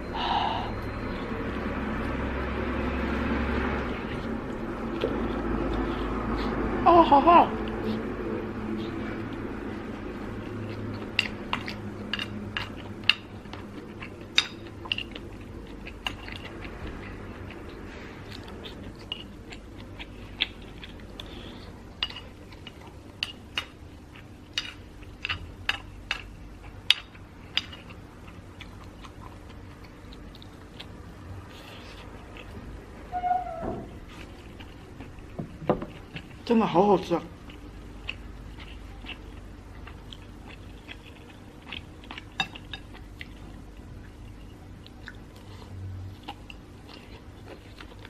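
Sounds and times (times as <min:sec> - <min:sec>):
faint steady hum: 0:00.0 - 0:48.0
person chewing food: 0:00.7 - 0:06.8, 0:07.5 - 0:32.9, 0:34.0 - 0:36.5, 0:37.4 - 0:48.0.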